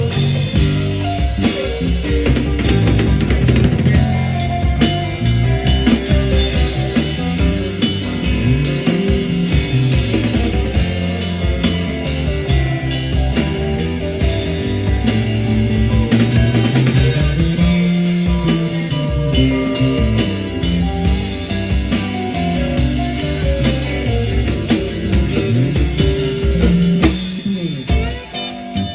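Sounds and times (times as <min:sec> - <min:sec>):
drum kit hits: 0:00.0 - 0:28.9
electric guitar: 0:00.0 - 0:28.9.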